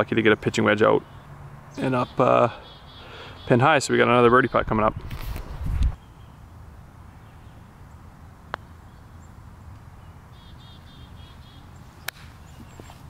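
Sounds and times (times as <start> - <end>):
bird chirping: 0.2 - 13.0.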